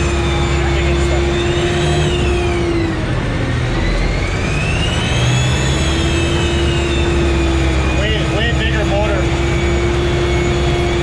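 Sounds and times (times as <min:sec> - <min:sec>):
high whine: 0:00.0 - 0:11.0
vehicle engine running under load: 0:00.0 - 0:11.0.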